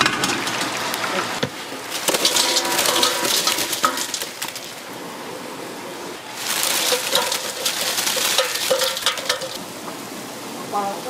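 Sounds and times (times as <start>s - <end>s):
chicken frying in hot oil: 0.0s - 9.7s.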